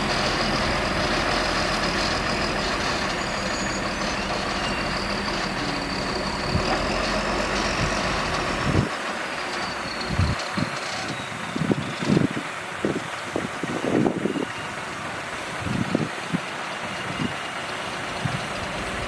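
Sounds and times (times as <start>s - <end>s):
heavy diesel machinery rumble: 0.0s - 19.0s.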